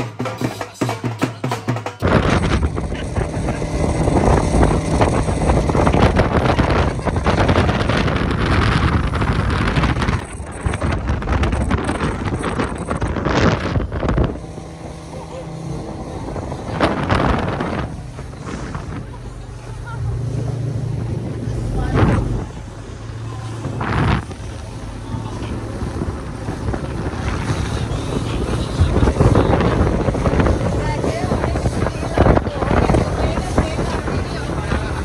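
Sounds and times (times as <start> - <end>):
outboard motor humming: 0.0 - 35.0
wind buffeting microphone: 2.0 - 35.0.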